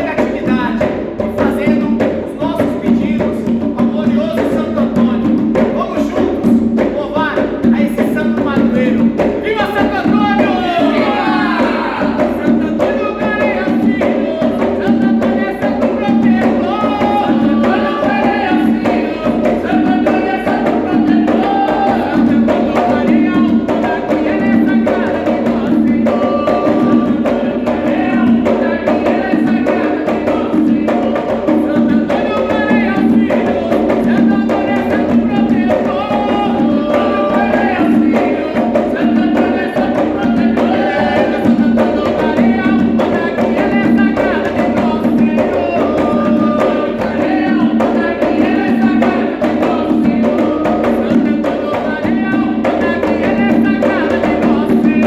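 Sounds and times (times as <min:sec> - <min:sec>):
hand drum percussion: 0:00.0 - 0:55.0
voices singing: 0:00.0 - 0:55.0.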